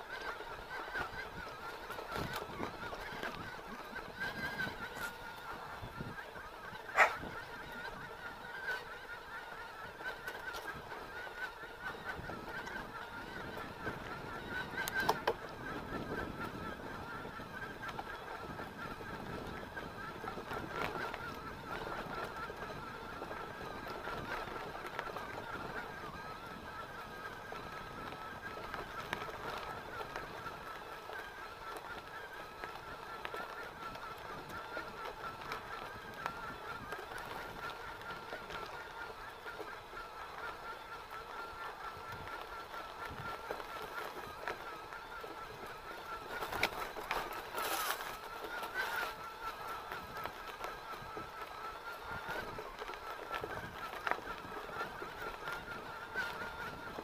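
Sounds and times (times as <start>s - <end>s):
steady wavering whine: 0.0s - 57.0s.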